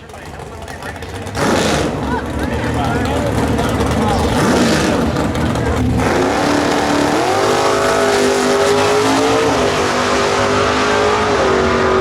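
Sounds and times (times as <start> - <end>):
car engine revving under hard throttle: 0.7 - 12.0.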